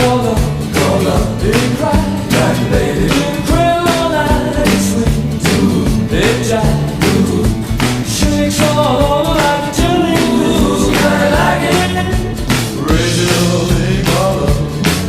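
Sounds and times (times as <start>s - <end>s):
upbeat song with drums and singing: 0.0s - 15.0s.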